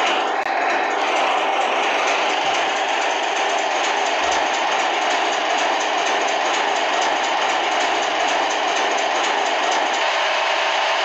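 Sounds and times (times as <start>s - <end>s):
simulated truck engine idling: 0.0s - 11.0s.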